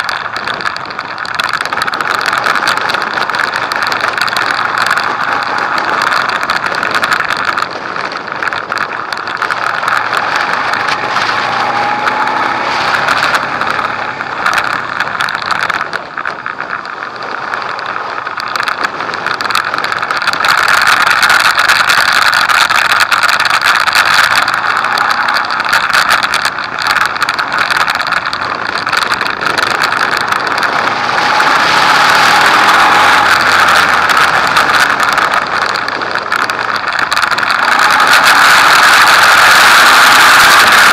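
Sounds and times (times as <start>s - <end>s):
motorcycle engine revving: 0.0s - 40.9s
wind rushing over microphone: 0.0s - 40.9s.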